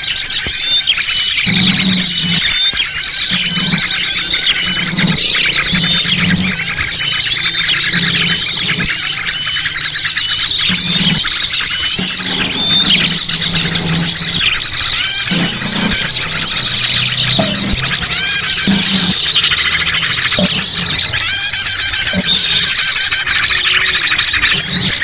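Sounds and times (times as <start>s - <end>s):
chorus of birds chirping: 0.0s - 25.0s.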